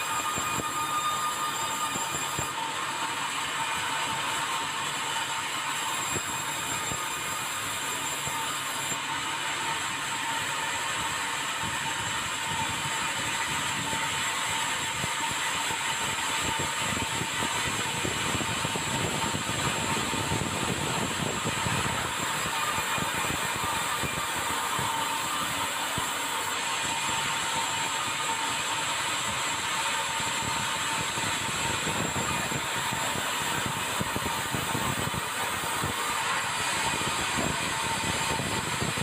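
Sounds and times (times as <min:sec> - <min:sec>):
machine running with whine: 0:00.0 - 0:39.0.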